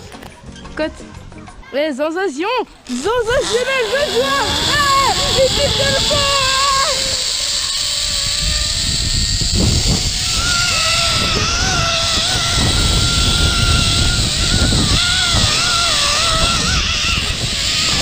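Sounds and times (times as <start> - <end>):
zip-line trolley on steel cable: 2.7 - 18.0
thin wavering high whine: 2.9 - 18.0
wind rushing over microphone: 2.9 - 18.0.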